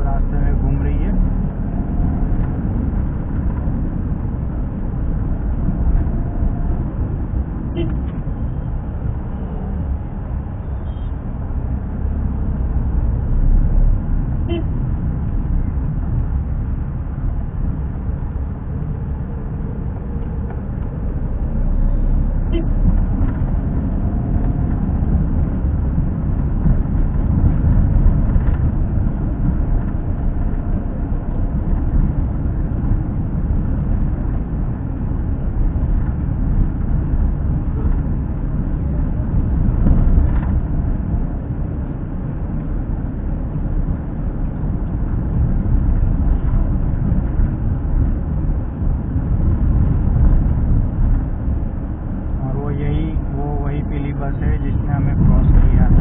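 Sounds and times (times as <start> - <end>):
vehicle running rumble: 0.0 - 56.0.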